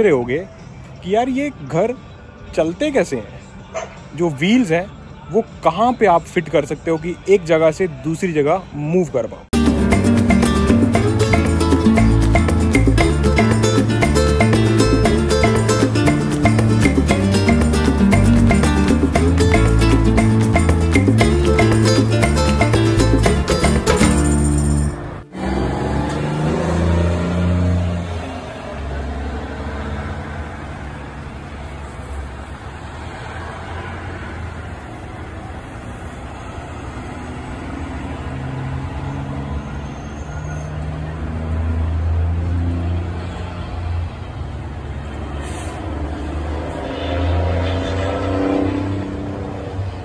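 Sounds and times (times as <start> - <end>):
diesel truck engines humming: 7.4 - 50.0
vehicle accelerating: 9.6 - 50.0.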